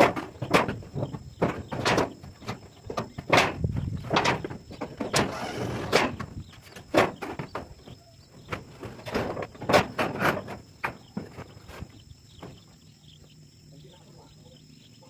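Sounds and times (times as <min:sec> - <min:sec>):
knocks and clatters on sheet metal: 0:00.0 - 0:12.6.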